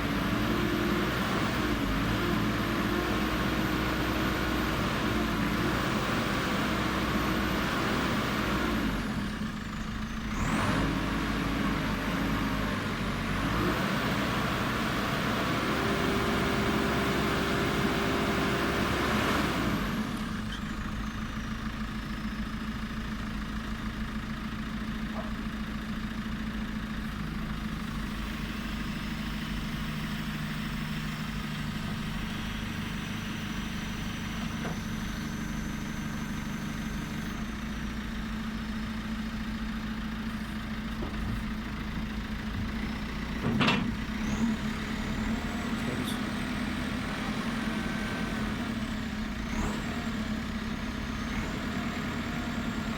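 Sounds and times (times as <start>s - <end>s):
diesel engine idling: 0.0s - 52.9s
engine clatter: 0.0s - 52.9s.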